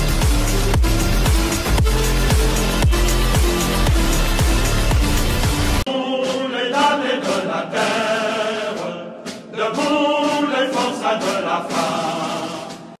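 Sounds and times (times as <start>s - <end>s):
choir singing: 2.1s - 13.0s.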